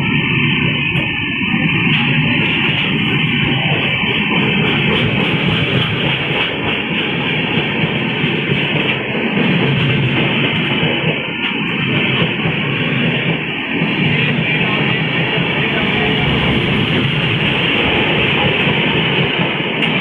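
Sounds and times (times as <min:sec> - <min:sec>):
train wheels roaring on rail: 0:00.0 - 0:20.0.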